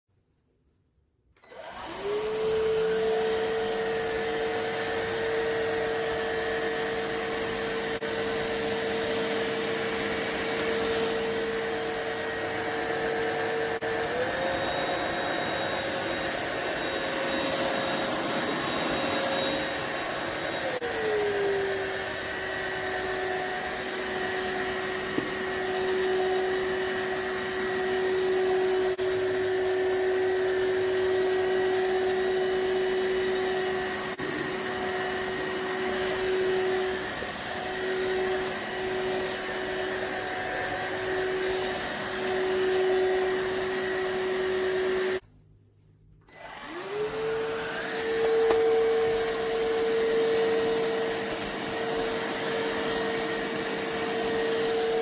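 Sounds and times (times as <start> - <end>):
stick vacuum motor whine: 1.4 - 45.2, 46.3 - 55.0.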